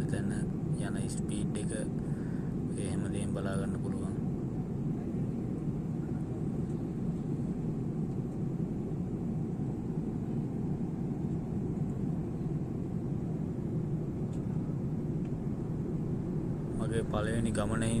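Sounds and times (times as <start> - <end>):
airliner cabin drone: 0.0 - 18.0.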